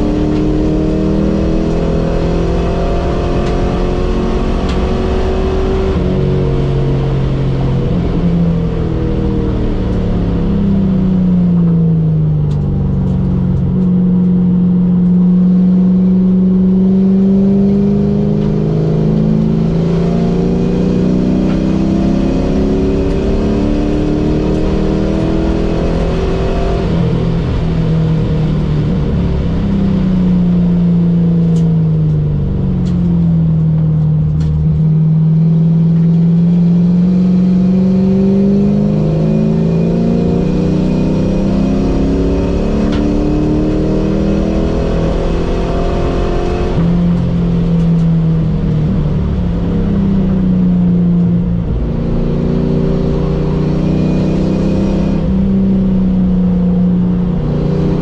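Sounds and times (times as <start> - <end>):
car engine accelerating and braking: 0.0 - 58.0.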